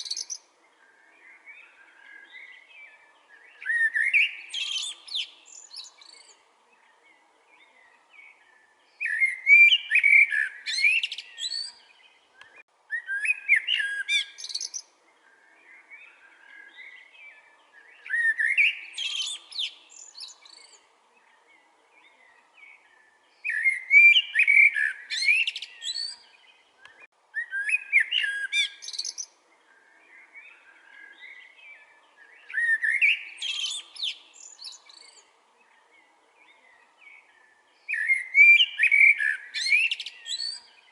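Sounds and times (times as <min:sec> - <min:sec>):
birds chirping faintly: 0:00.0 - 0:40.9
blackbird singing: 0:00.0 - 0:40.9.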